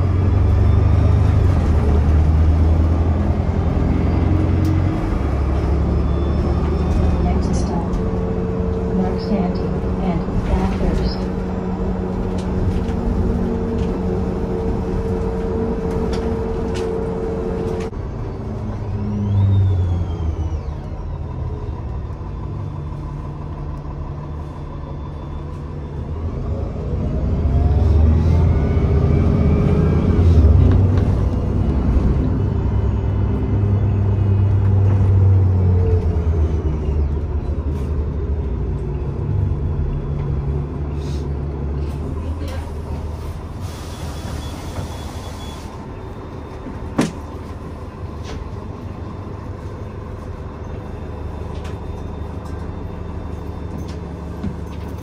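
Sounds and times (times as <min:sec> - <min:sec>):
bus engine rumble: 0:00.0 - 0:55.0
rising engine whine: 0:00.0 - 0:55.0.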